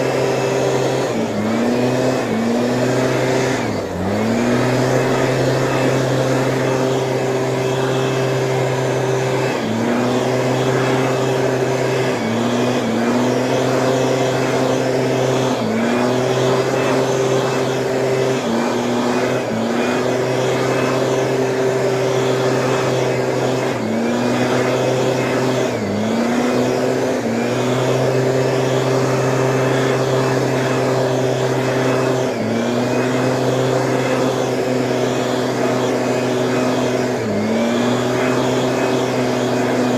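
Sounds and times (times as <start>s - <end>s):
small two-stroke engine running: 0.0s - 39.9s.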